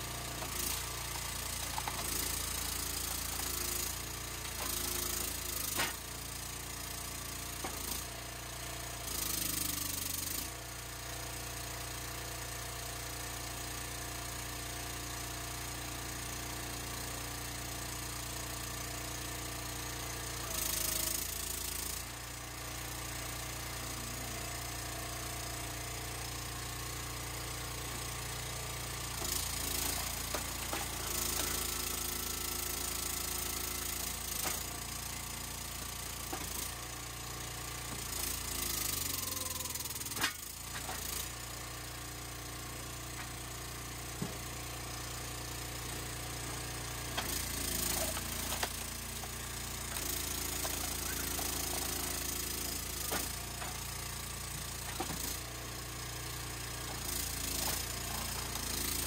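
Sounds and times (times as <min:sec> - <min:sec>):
small engine idling: 0:00.0 - 0:59.0.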